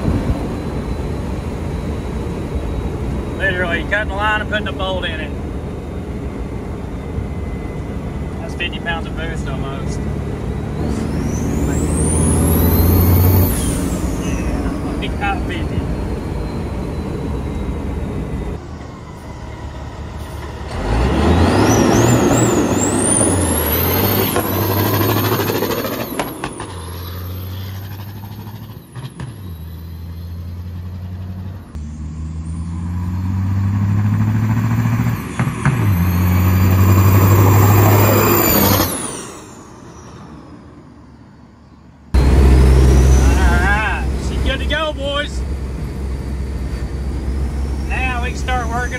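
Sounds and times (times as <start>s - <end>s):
high rising turbo whistle: 0.0s - 48.9s
truck diesel engine accelerating: 0.0s - 48.9s.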